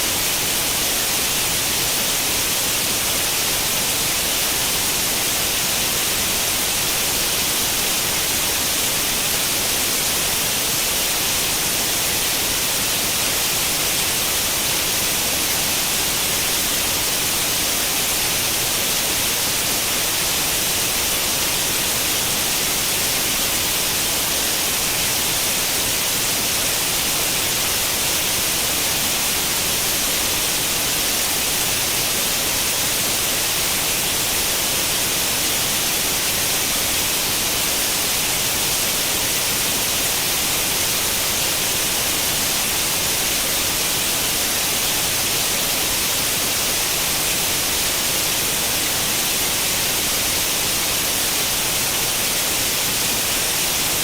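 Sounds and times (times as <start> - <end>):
television static hiss: 0.0 - 54.0.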